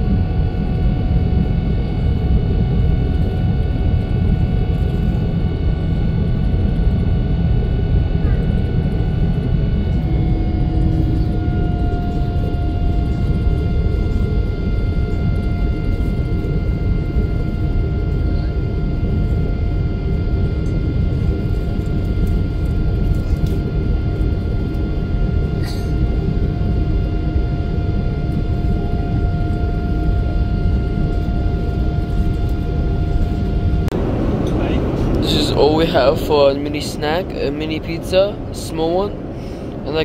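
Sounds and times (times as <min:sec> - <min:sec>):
jet engines and rushing air: 0:00.0 - 0:40.0
whining tones: 0:00.0 - 0:40.0.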